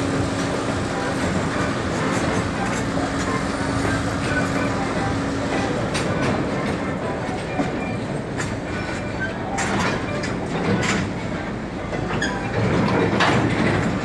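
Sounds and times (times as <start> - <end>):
train wheels clattering on track: 0.0 - 14.0.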